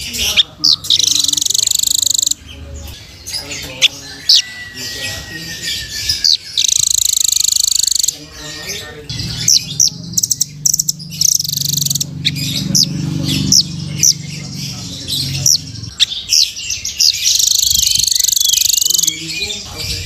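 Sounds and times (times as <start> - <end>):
nuthatch chirps and trills: 0.0 - 20.0.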